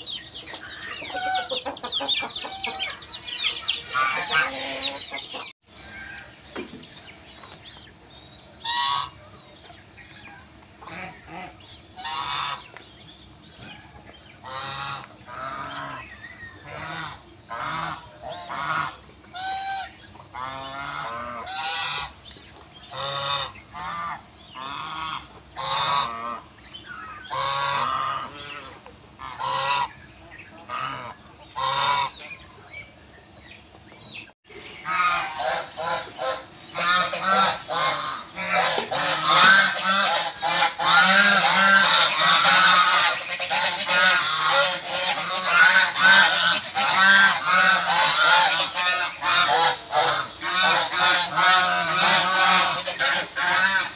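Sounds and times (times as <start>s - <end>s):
geese honking: 0.0s - 6.4s, 8.5s - 12.8s, 13.5s - 32.8s, 34.7s - 53.9s.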